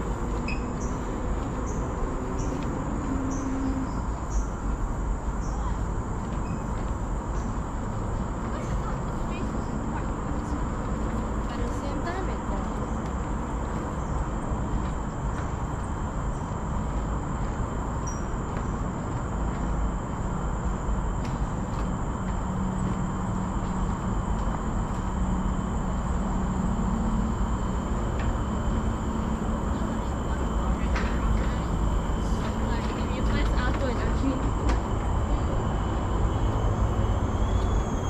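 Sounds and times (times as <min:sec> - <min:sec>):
low hum: 0:00.0 - 0:38.0
outdoor background rumble: 0:00.0 - 0:38.0.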